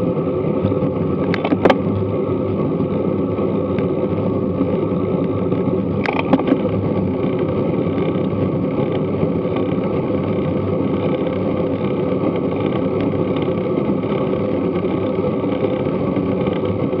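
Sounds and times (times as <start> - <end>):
bicycle road noise: 0.0 - 17.0
wind noise: 0.0 - 17.0.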